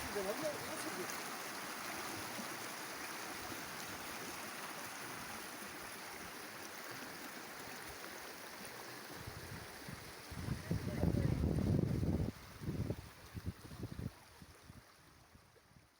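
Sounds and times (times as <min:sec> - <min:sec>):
running water rushing: 0:00.0 - 0:15.9.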